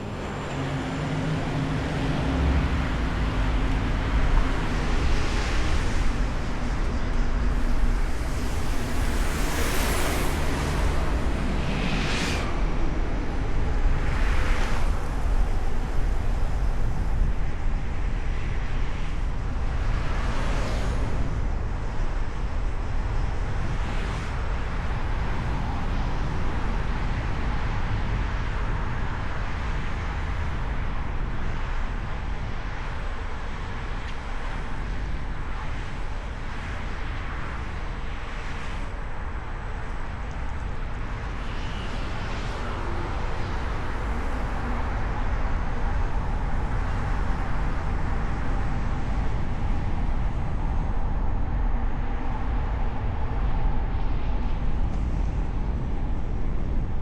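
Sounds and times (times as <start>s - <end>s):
car road and wind rumble: 0.0s - 57.0s
passing traffic: 0.0s - 57.0s.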